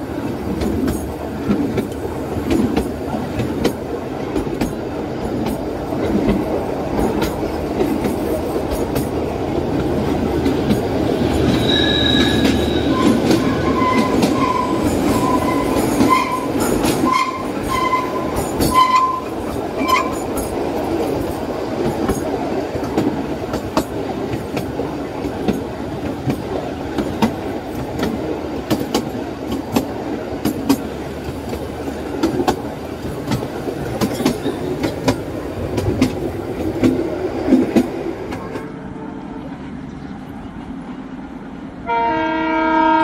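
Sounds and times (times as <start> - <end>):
wheels clicking over rail joints: 0.0 - 38.7
train wheel rumble: 0.0 - 43.0.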